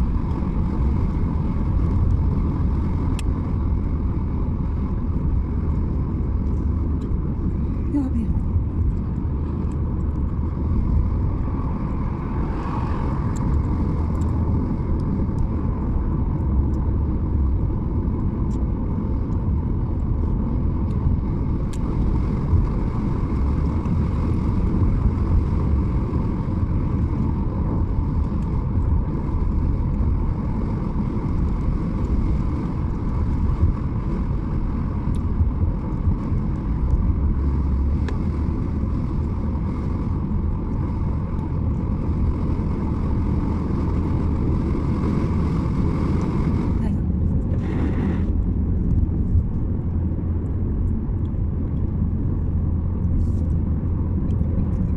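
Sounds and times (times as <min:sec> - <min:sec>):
car engine and tyres rumbling: 0:00.0 - 0:54.9.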